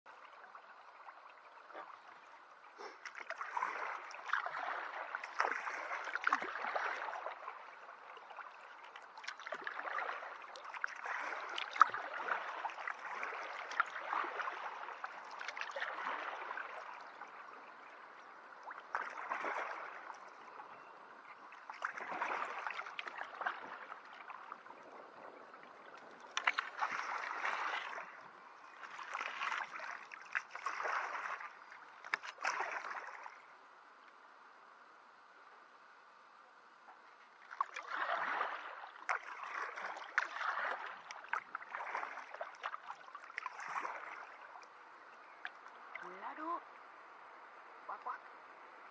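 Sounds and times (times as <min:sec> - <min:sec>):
paddle splashing and dripping: 0:00.1 - 0:34.2, 0:36.7 - 0:47.3.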